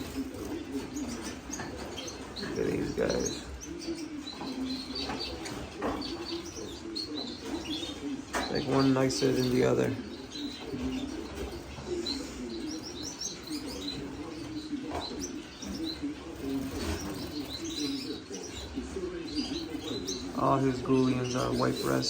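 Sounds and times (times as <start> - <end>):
finches and canaries chirping: 0.0 - 22.0.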